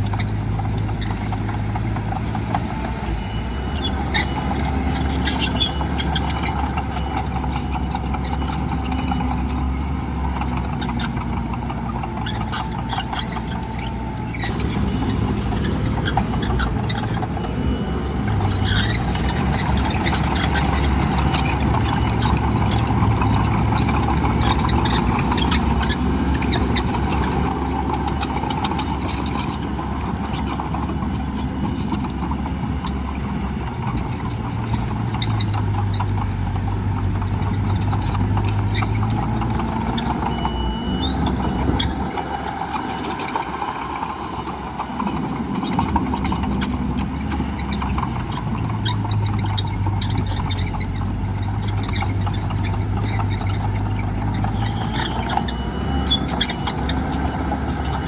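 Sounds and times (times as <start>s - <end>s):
diesel machinery engine revving: 0.0s - 58.0s.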